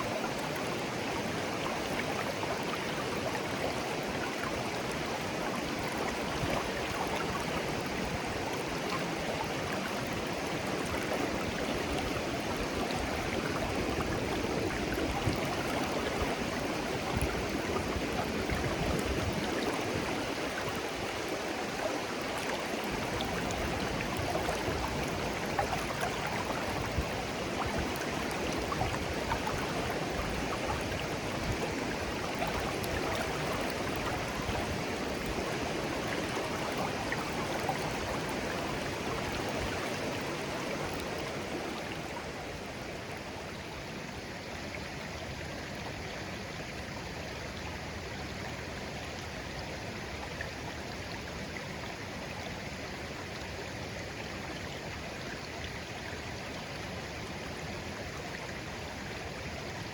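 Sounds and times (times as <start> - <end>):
babbling brook: 0.0 - 59.9.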